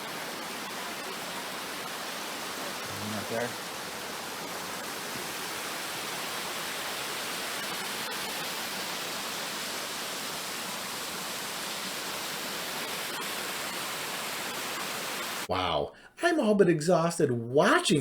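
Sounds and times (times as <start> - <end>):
waterfall and stream rushing: 0.0 - 15.5.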